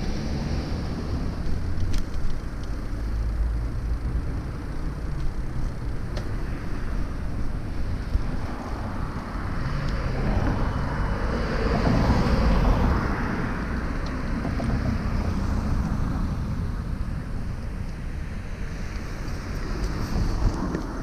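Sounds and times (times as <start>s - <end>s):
city street noise: 0.0s - 21.0s
wind rumbling on microphone: 0.0s - 21.0s.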